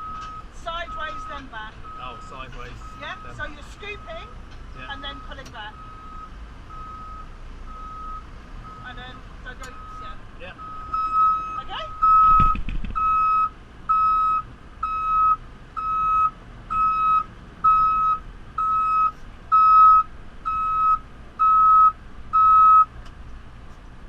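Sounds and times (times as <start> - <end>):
reversing alarm beeping: 0.0 - 4.3, 5.0 - 22.9.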